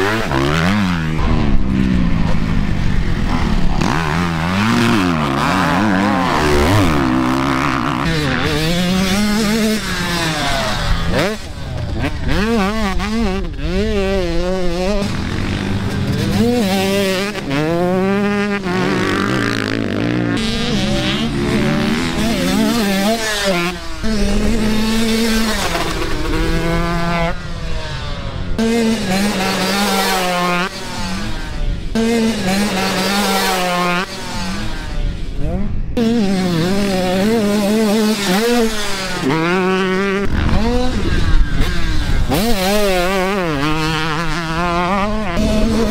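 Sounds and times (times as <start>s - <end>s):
dirt bike engines revving: 0.0s - 45.9s
engine drone: 0.0s - 45.9s.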